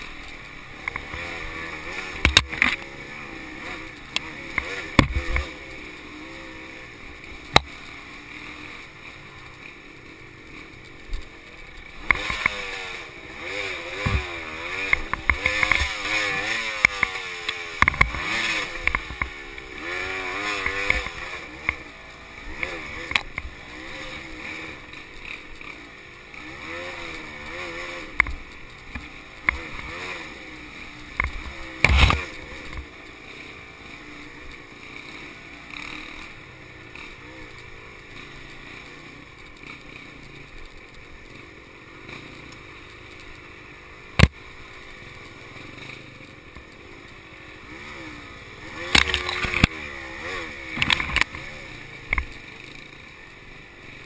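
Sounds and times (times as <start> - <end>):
two-stroke dirt bike engine: 0.0 - 54.0.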